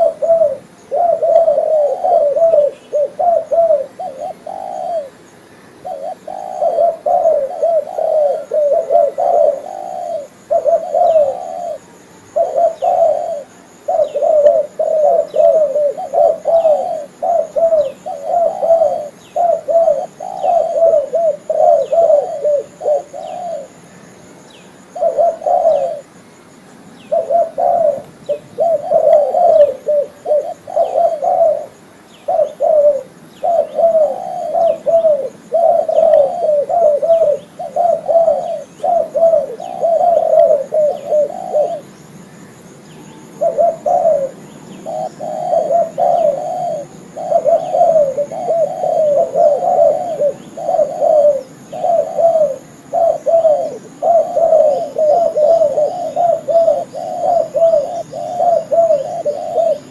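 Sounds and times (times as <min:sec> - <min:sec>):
dove cooing: 0:00.0 - 0:26.2, 0:27.0 - 0:59.9.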